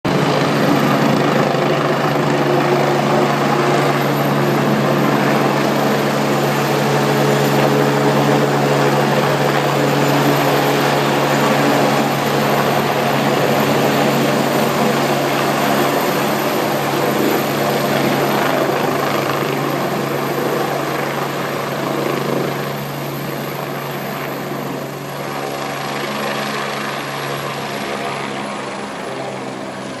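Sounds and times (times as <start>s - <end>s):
helicopter rotor and engine drone: 0.0s - 30.0s.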